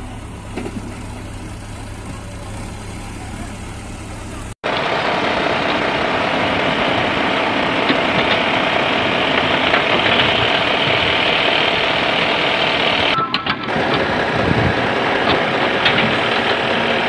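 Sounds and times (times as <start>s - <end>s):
loud steady engine running: 0.0s - 17.0s.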